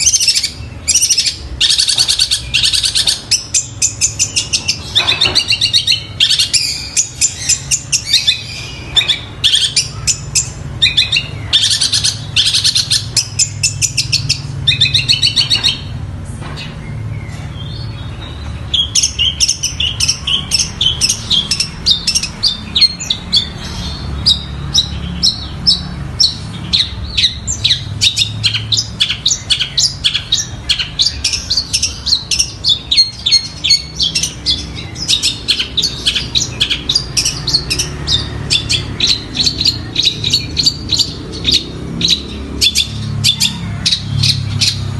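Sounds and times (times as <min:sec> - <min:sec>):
bird singing chattering chirps: 0:00.0 - 0:44.9.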